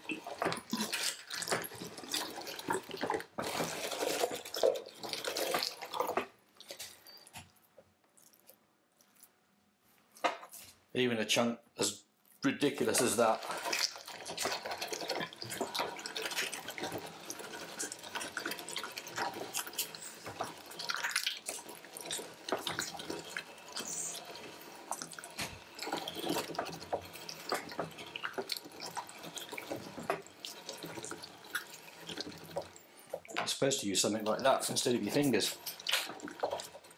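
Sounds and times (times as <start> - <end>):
hand-cranked meat grinder mincing: 0.0 - 7.1, 12.6 - 33.4, 34.0 - 36.9.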